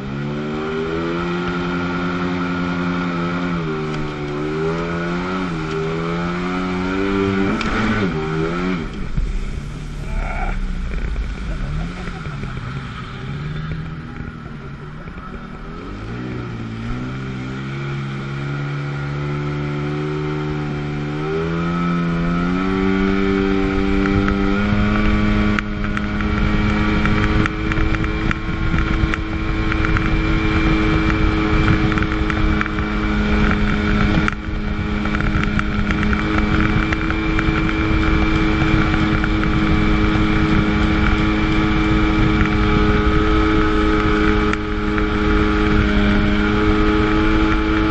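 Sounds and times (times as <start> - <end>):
jet ski engine accelerating: 0.0 - 47.9.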